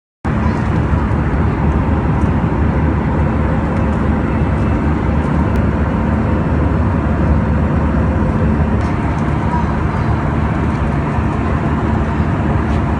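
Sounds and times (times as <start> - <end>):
airliner cabin engine rumble: 0.2 - 12.9.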